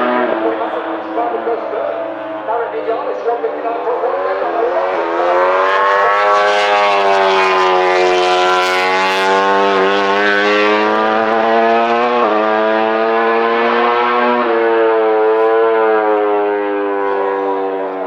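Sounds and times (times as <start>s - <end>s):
racing motorcycle engine at high revs: 0.0s - 18.0s.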